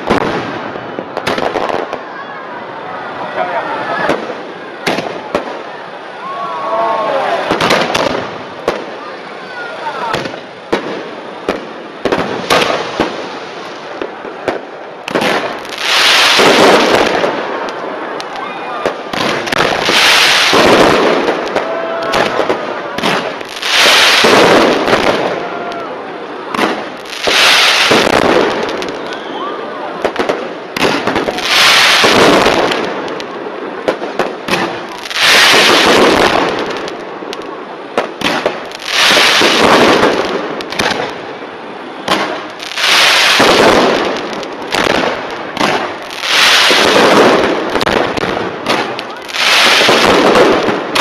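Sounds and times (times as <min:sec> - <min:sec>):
fireworks popping and crackling: 0:00.0 - 0:02.2, 0:03.4 - 0:06.1, 0:06.9 - 0:51.0
fireworks bursting: 0:00.0 - 0:51.0.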